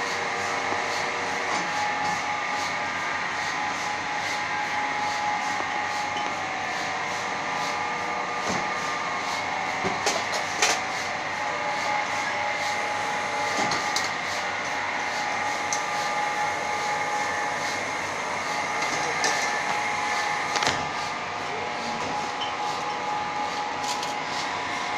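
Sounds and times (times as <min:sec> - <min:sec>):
machinery humming: 0:00.0 - 0:24.9.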